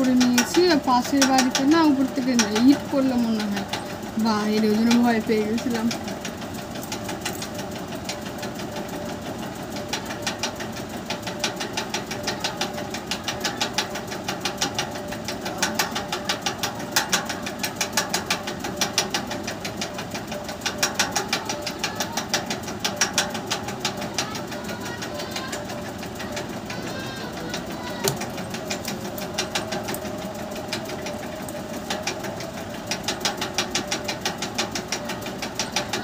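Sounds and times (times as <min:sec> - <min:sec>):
small motor humming: 0:00.0 - 0:36.0.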